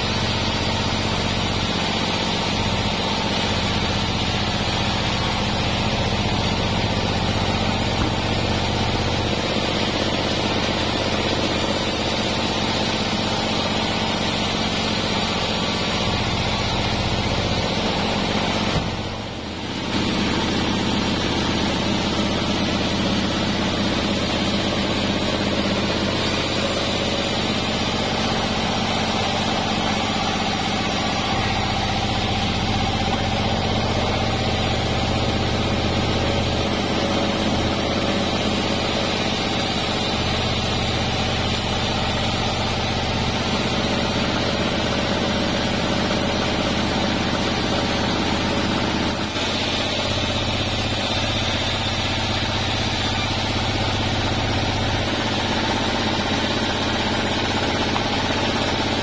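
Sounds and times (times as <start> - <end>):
band sawmill droning: 0.0 - 59.0.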